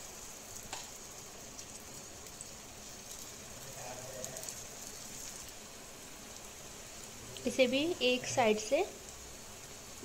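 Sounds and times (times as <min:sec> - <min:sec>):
batter sizzling in hot oil: 0:00.0 - 0:10.0.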